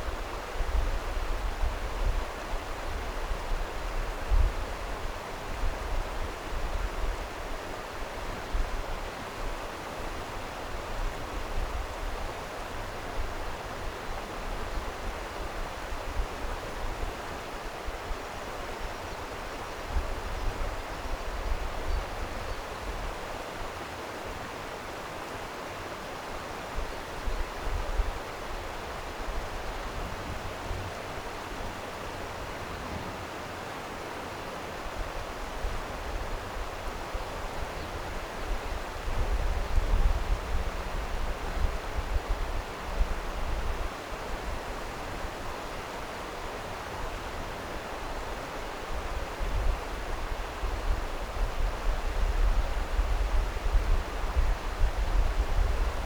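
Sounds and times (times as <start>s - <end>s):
stream water rushing: 0.0s - 39.3s, 40.2s - 56.0s.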